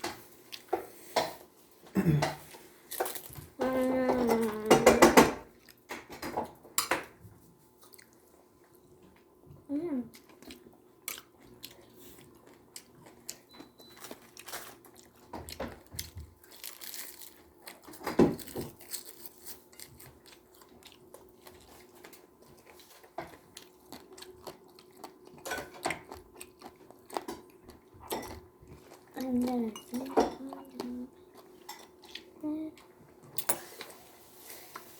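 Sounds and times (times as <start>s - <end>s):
child chewing: 0.2s - 1.5s, 2.3s - 6.1s, 7.2s - 34.9s.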